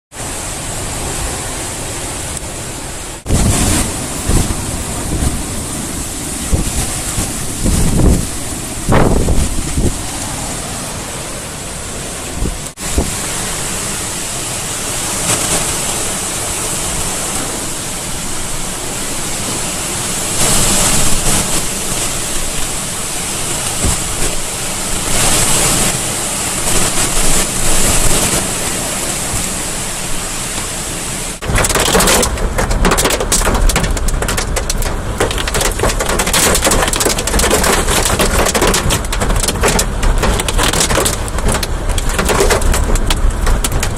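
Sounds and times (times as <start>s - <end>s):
heavy rain pouring: 0.1s - 43.9s.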